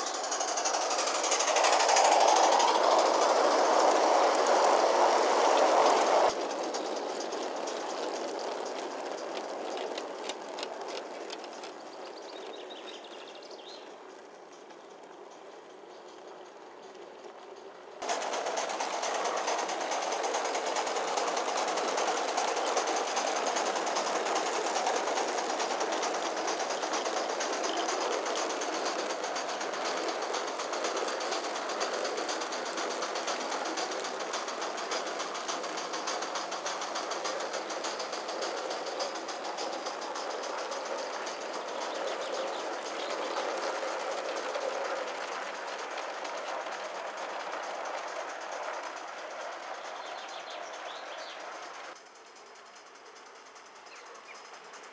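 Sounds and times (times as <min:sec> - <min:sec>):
model steam locomotive exhaust beats: 0:00.0 - 0:54.9
train clattering on track: 0:00.0 - 0:54.9.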